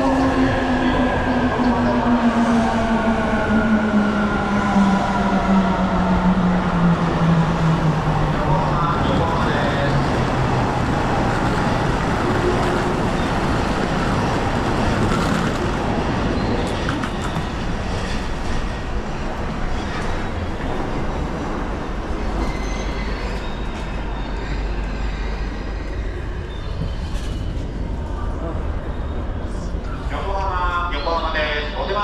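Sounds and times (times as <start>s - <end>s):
train wheels rumbling on rails: 0.0s - 30.2s.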